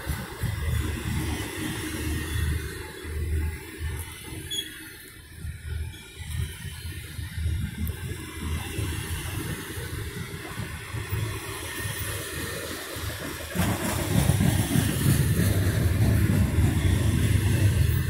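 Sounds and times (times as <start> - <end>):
freight train wheels clattering on rails: 0.0 - 18.0.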